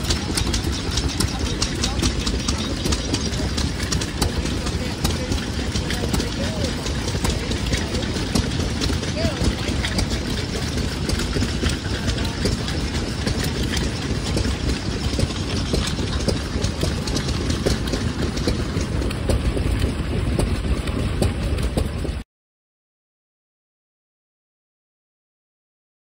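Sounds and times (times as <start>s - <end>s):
barrel churn clattering: 0.0s - 22.2s
stationary engine running: 0.0s - 22.2s.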